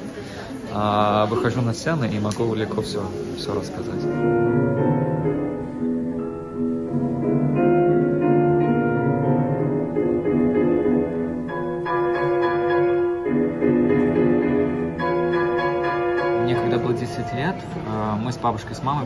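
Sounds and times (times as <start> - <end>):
piano music: 0.8 - 19.0.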